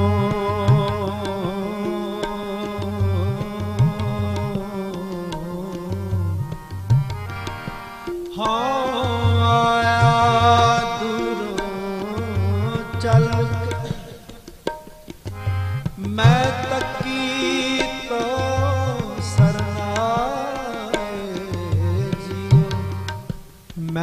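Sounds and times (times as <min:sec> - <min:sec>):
man singing: 0:00.0 - 0:06.7, 0:08.3 - 0:14.7, 0:15.9 - 0:24.0
harmonium melody: 0:00.0 - 0:24.0
tabla: 0:00.0 - 0:24.0.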